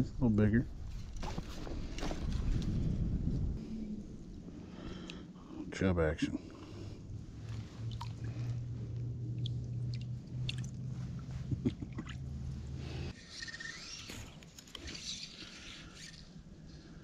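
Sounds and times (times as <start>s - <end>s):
low hum: 0.6s - 17.0s.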